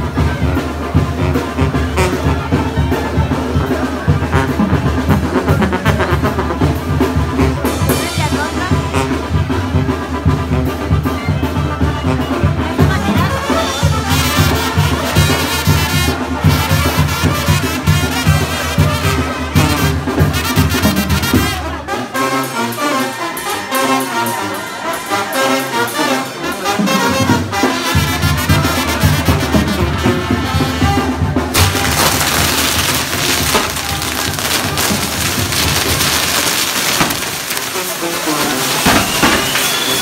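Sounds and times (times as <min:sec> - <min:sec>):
brass band music: 0:00.0 - 0:40.0.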